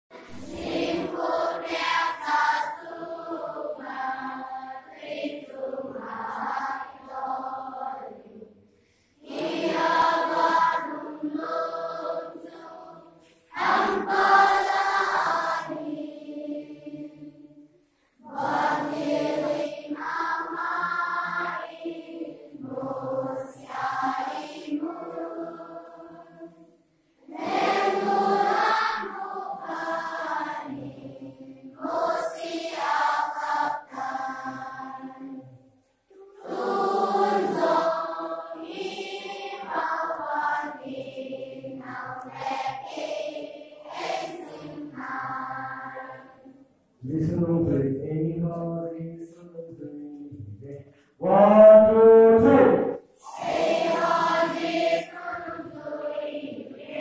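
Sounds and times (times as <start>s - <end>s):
children singing together: 0.1s - 8.6s, 9.2s - 46.6s, 51.2s - 57.0s.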